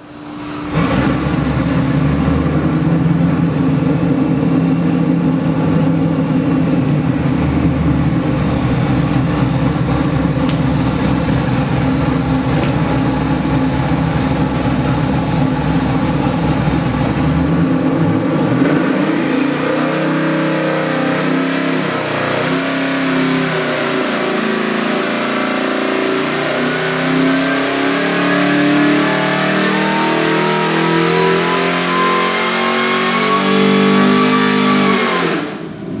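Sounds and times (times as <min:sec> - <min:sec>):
supercharger whine: 0:00.0 - 0:36.0
engine revving hard: 0:00.5 - 0:36.0.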